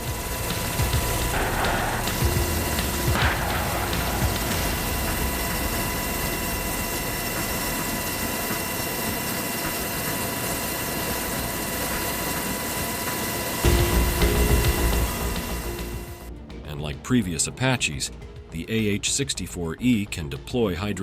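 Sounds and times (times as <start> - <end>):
turbine engine whine: 0.0 - 21.0.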